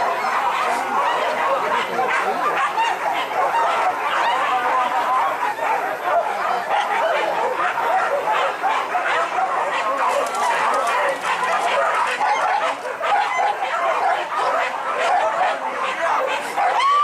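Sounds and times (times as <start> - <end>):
dogs yelping and barking: 0.0 - 17.0.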